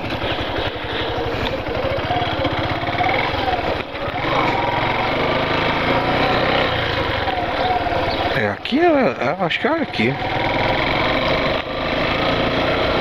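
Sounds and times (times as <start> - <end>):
motorcycle engine running slowly: 0.0 - 13.0.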